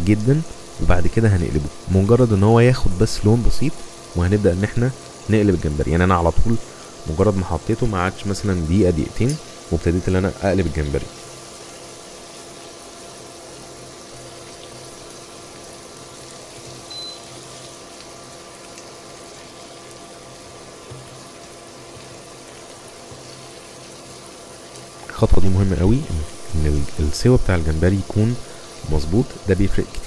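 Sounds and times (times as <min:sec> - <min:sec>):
faint steady hum: 0:00.0 - 0:30.0
shrimp sizzling in a frying pan: 0:00.0 - 0:30.0.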